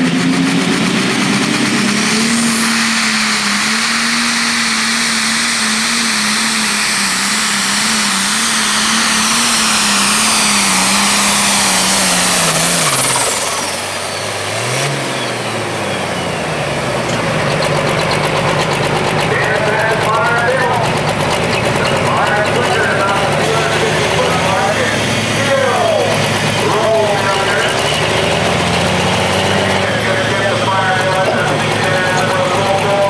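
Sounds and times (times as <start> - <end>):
tractor diesel engine at full power: 0.0 - 33.0
turbo whine: 0.0 - 33.0.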